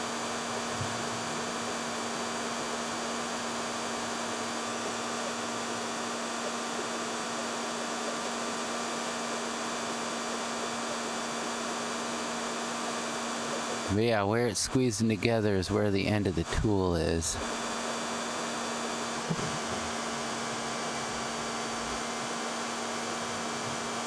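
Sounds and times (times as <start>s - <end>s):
hair dryer running: 0.0s - 13.9s, 17.4s - 24.0s.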